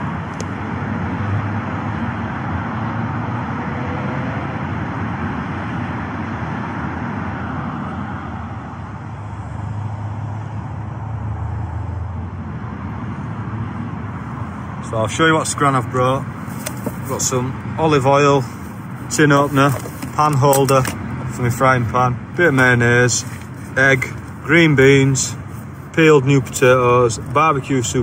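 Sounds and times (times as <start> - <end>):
motorway traffic: 0.0 - 28.0.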